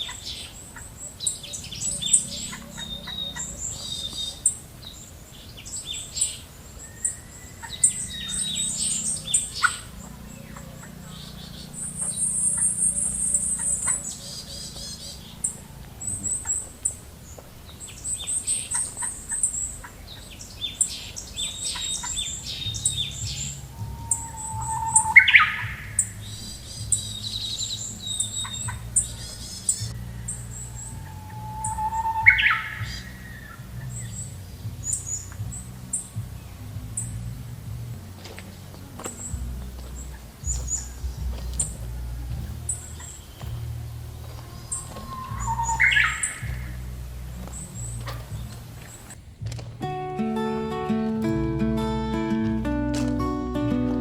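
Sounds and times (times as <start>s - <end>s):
birds chirping and trilling: 0.0s - 37.3s, 38.4s - 54.0s.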